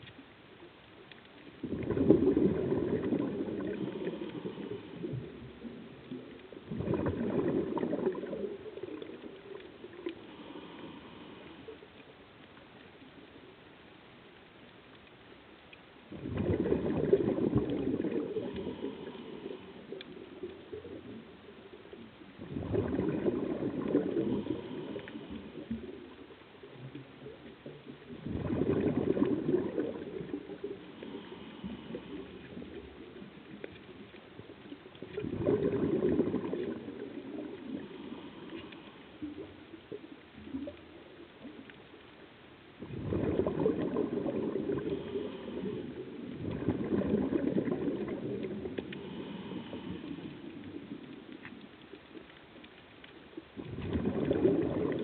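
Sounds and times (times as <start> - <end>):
underwater regulator bubbling: 1.1 - 11.8, 16.0 - 42.0, 42.8 - 55.0.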